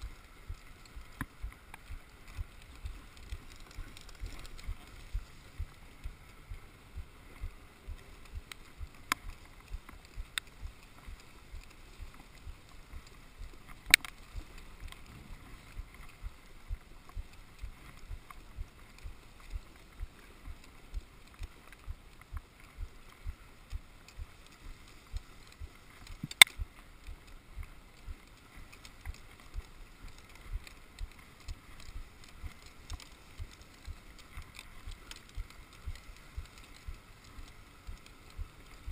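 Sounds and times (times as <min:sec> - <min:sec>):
soft low thumps: 0:00.0 - 0:38.9.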